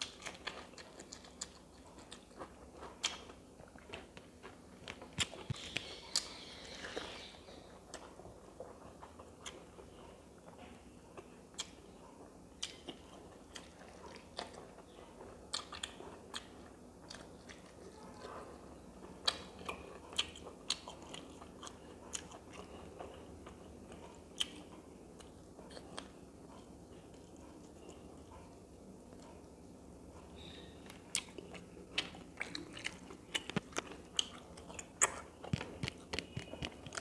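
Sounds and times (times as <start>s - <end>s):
person chewing and lip smacking: 0.0s - 29.6s, 30.2s - 37.0s.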